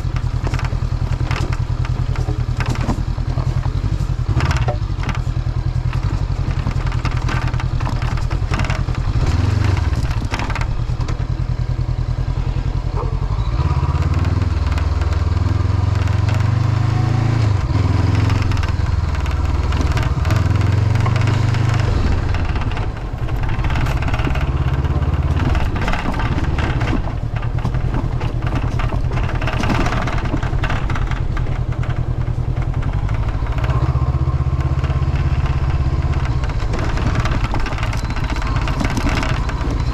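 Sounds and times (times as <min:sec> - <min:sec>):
windshield rattling: 0:00.0 - 0:13.1, 0:13.7 - 0:39.9
motorcycle engine running: 0:00.0 - 0:39.9.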